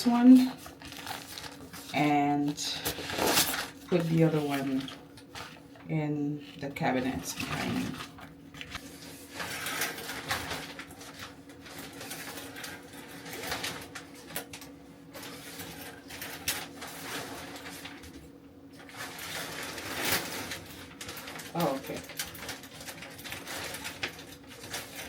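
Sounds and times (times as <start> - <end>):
steady low hum: 0.0 - 22.6
plastic curtain crinkling: 0.0 - 25.0.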